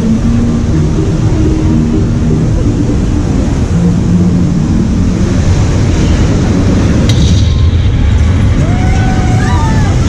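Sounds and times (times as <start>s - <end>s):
whitewater roaring: 0.0s - 10.0s.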